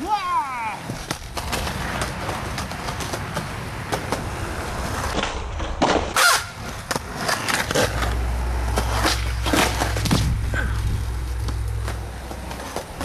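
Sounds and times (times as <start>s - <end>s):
skateboard wheels rolling: 0.0s - 13.0s
skateboard clacking on concrete: 0.7s - 13.0s.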